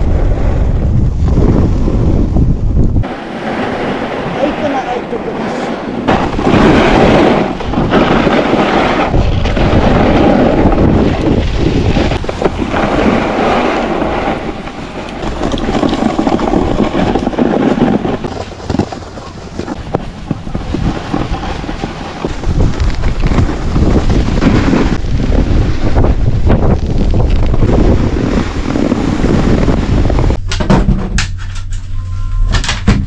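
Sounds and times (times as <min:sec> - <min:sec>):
sliding on packed snow: 0:00.0 - 0:30.4
wind buffeting microphone: 0:00.0 - 0:31.2.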